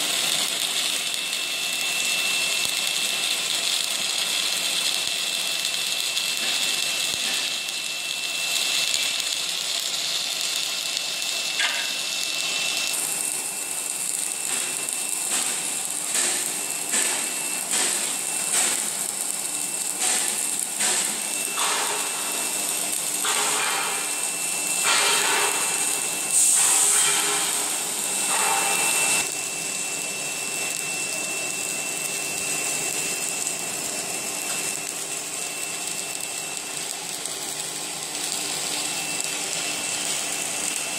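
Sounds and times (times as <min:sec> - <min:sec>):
welding machine hiss and whine: 0:00.0 - 0:40.9.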